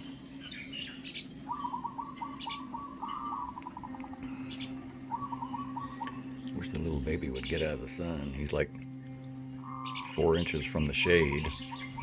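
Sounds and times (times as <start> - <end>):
birds calling with harsh chirps: 0.0 - 12.0
steady low hum: 0.0 - 12.0.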